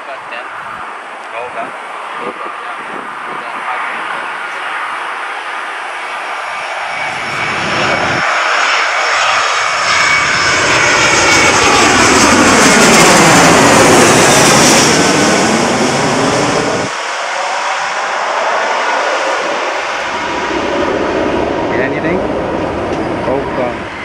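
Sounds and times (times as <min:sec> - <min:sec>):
jet engine roar passing: 0:00.0 - 0:24.0.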